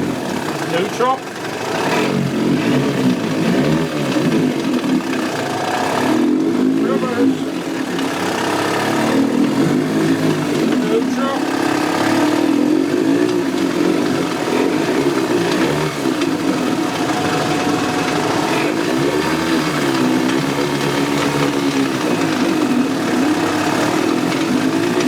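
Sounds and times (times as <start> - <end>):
outboard motor running unevenly: 0.0 - 25.0.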